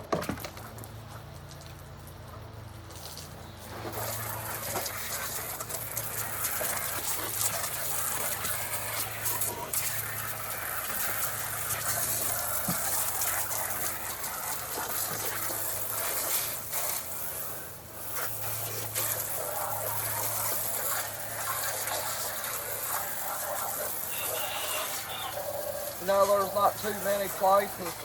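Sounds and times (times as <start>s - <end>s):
water spraying onto steps: 0.1s - 28.0s.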